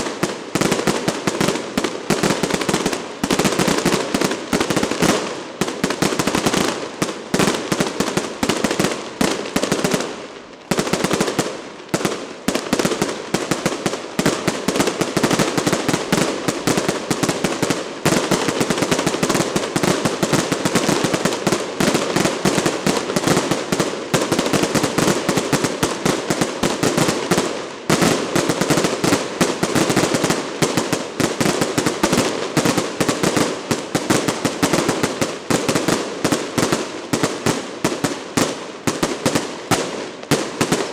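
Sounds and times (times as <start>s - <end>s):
fireworks crackling bangs: 0.0s - 40.9s.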